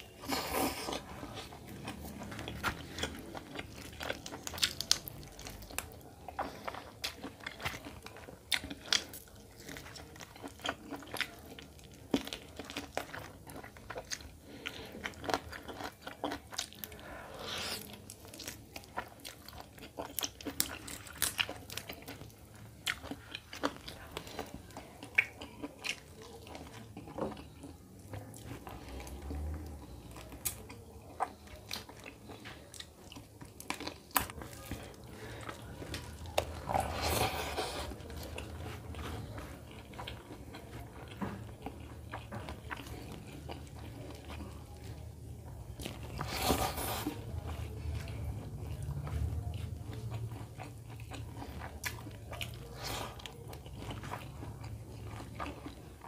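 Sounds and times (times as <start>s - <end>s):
wet chewing mouth sounds: 0.0s - 56.0s.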